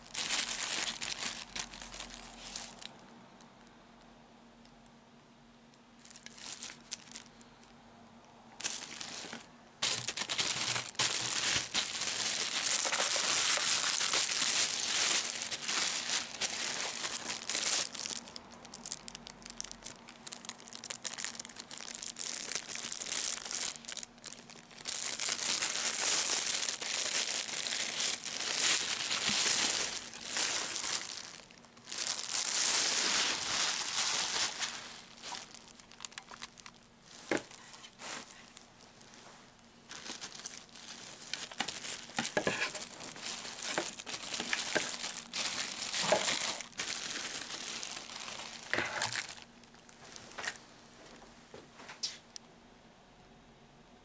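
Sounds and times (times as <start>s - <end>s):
plastic wrapping crinkling: 0.0s - 3.0s, 6.0s - 7.5s, 8.6s - 50.6s.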